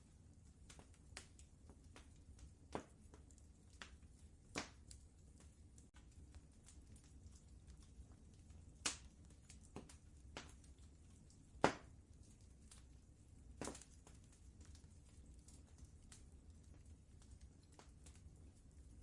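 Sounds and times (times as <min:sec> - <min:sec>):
faint low rumble: 0:00.0 - 0:19.0
wood fire crackling: 0:00.0 - 0:19.0.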